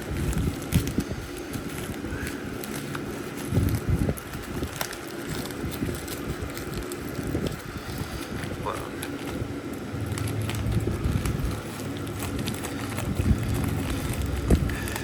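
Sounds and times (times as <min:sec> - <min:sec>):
package rustling and rubbing: 0:00.0 - 0:15.0.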